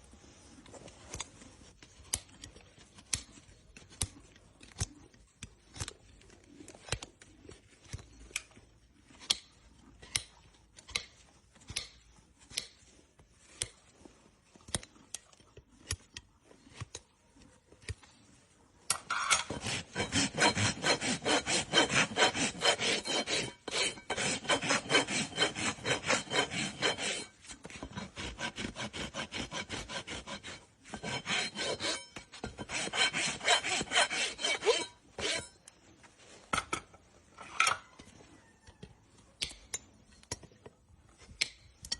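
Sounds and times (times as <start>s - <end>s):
hoof rasp scraping hoof: 0.0s - 38.2s.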